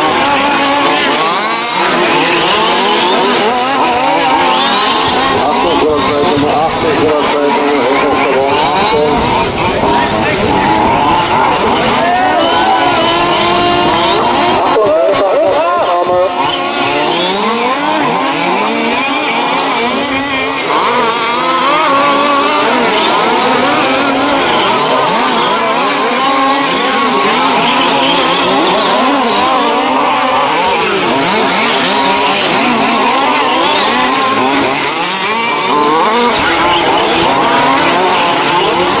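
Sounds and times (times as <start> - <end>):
rc car engines revving: 0.0 - 39.0.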